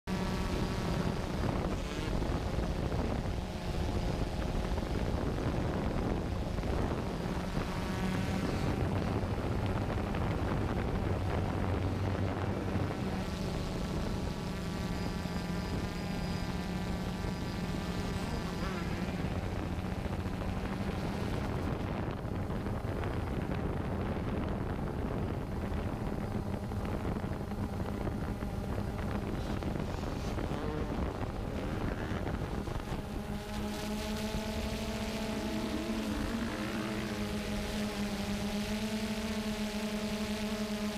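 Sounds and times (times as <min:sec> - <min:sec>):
drone motors humming: 0:00.0 - 0:40.9
wind on microphone: 0:00.0 - 0:40.9
dirt bike engines revving: 0:00.1 - 0:40.9.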